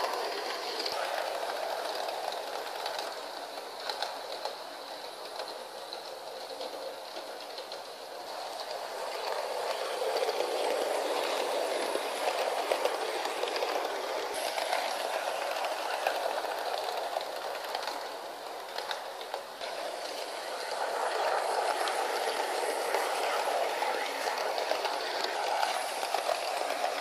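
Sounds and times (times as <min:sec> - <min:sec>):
light clicking of track: 0:00.0 - 0:27.0
model train wheels rumbling on rails: 0:00.0 - 0:27.0.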